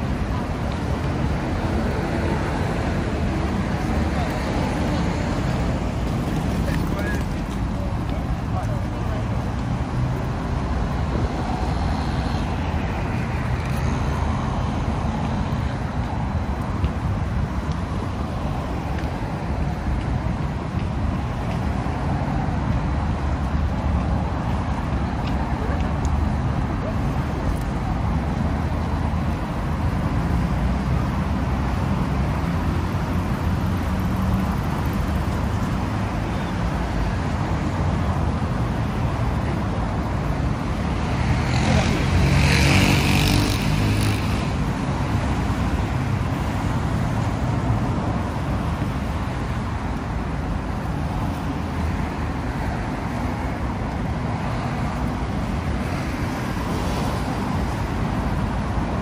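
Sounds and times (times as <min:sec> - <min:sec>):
street traffic rumble: 0:00.0 - 0:59.0.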